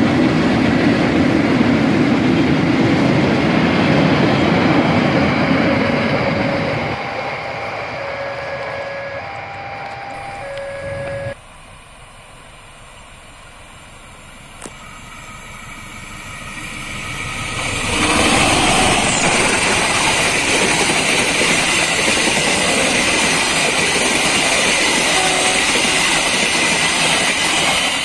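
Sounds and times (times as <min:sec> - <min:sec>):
train passing on rails: 0:00.0 - 0:28.0.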